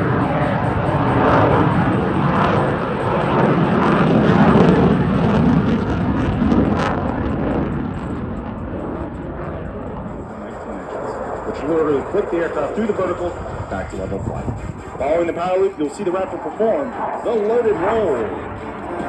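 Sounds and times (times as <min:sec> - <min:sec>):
loud rushing jet noise: 0:00.0 - 0:19.0.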